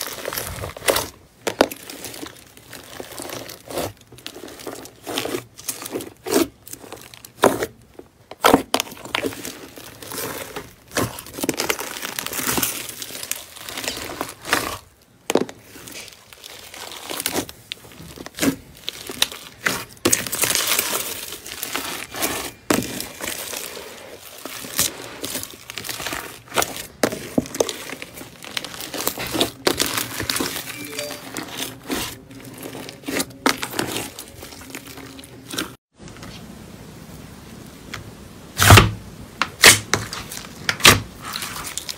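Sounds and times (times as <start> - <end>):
slime crackling and popping: 0.0 - 7.8, 8.4 - 35.8.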